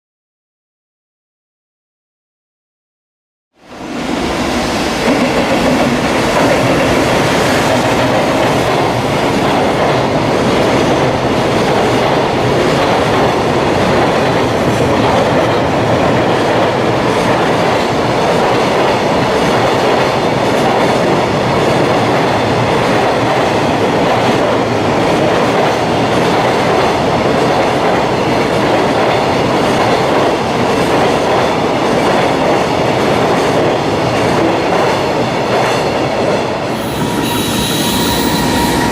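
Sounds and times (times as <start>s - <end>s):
freight train passing: 3.6s - 38.9s.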